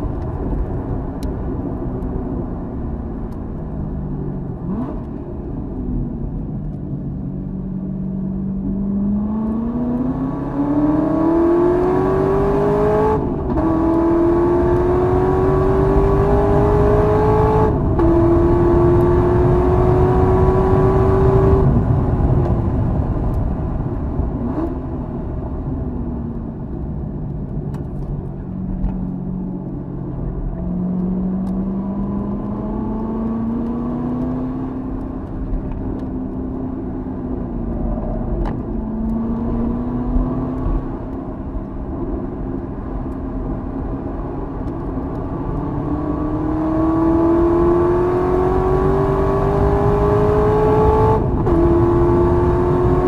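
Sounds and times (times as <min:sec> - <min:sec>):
car engine at full throttle: 0:00.0 - 0:53.0.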